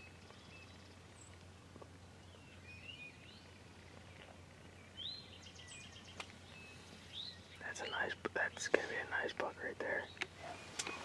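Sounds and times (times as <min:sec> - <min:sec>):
woodland birdsong chirps and trills: 0:00.0 - 0:11.0.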